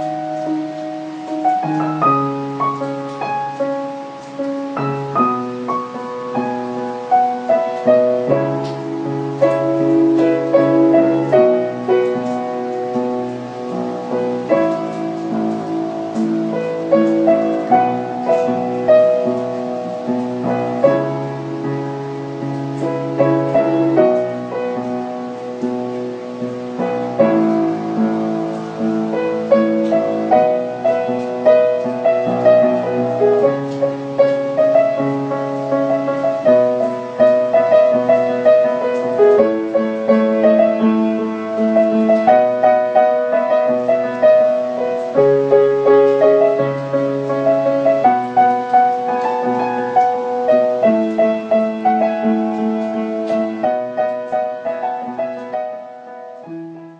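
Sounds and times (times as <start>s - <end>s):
gentle solo piano piece: 0.0s - 56.9s.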